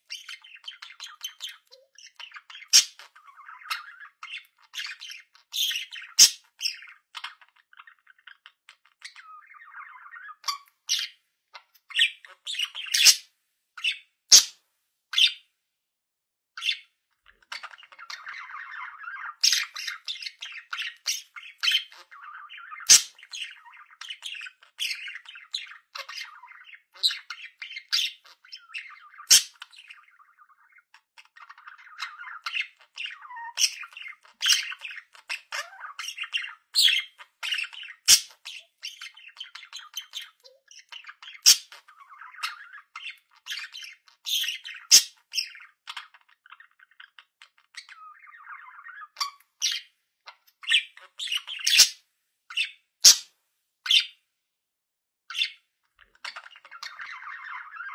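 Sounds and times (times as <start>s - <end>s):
budgerigar chattering: 0.1s - 11.1s, 11.9s - 13.2s, 13.8s - 14.6s, 17.4s - 49.8s, 50.6s - 53.3s.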